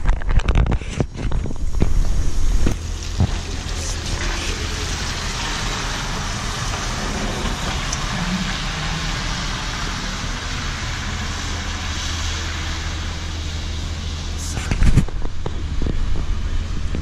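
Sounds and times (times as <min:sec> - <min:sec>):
electric bus hiss and hum: 0:01.4 - 0:17.0.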